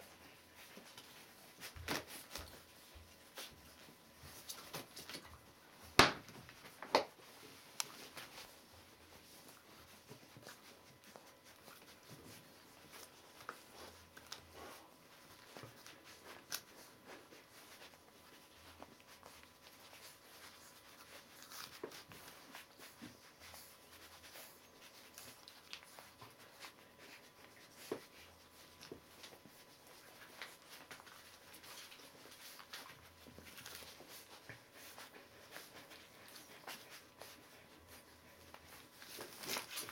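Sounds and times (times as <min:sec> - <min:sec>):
puppies rustling on paper: 0:00.0 - 0:39.9.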